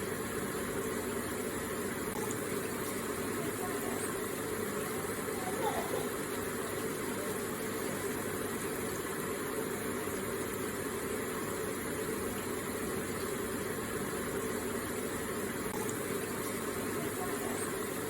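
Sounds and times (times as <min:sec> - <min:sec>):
water trickling and splashing: 0:00.1 - 0:18.0.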